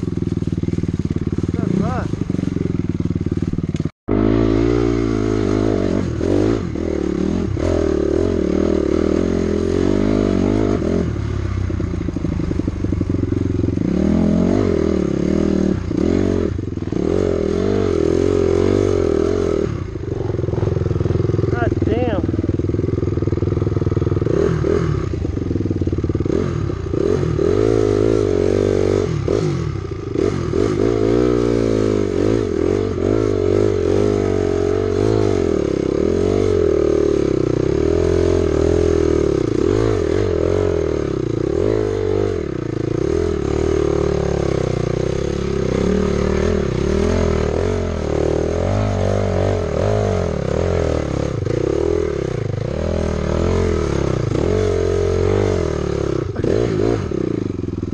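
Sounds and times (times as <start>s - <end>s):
two-stroke dirt bike engine revving: 0.0s - 57.9s.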